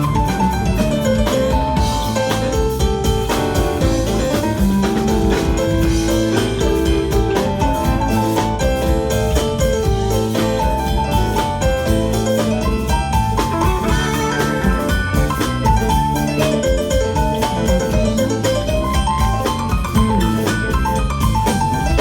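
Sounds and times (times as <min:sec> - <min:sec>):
blues band playing: 0:00.0 - 0:22.0.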